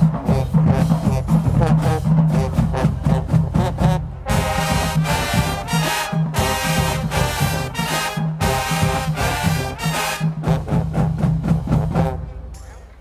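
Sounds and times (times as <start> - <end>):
brass chords: 0.0 - 13.0
drum beats: 0.0 - 13.0
marching band playing: 0.0 - 13.0.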